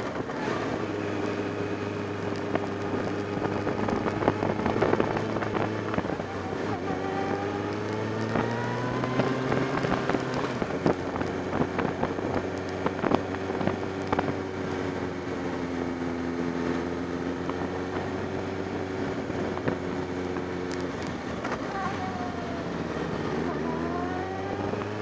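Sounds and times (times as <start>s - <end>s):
wind rushing over microphone: 0.0s - 15.5s, 17.4s - 25.0s
motorcycle engine running: 0.0s - 25.0s.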